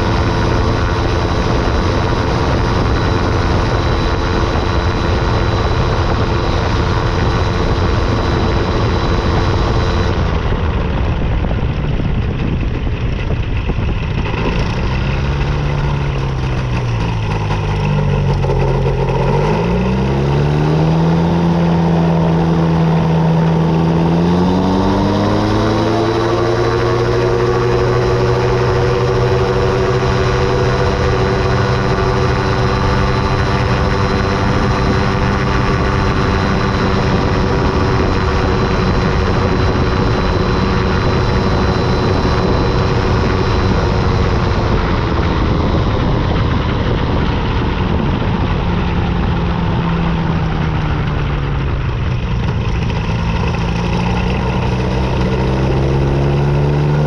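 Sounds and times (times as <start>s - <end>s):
model airplane engine and propeller: 0.0s - 57.0s.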